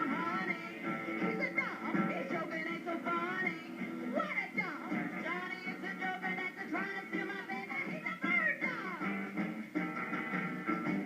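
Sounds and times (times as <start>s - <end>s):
live rock and roll song: 0.0s - 11.0s.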